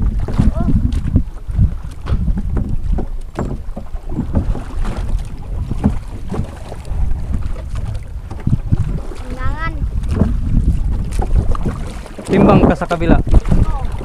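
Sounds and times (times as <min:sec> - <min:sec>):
boat knocking: 0:00.0 - 0:14.0
wind on microphone: 0:00.0 - 0:14.0.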